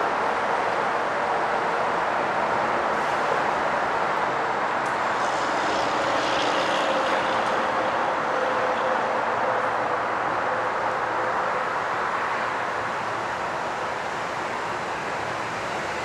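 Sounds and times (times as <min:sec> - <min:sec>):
commuter train rumbling: 0:00.0 - 0:16.0
faint train whine: 0:00.0 - 0:16.0.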